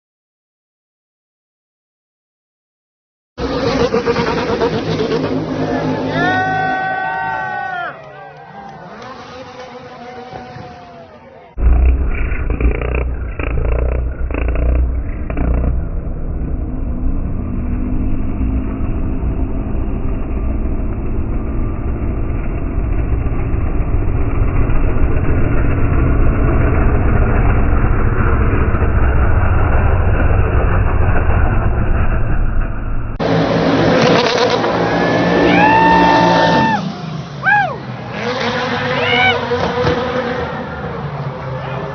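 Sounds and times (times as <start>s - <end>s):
car engine rumbling: 3.4s - 41.9s.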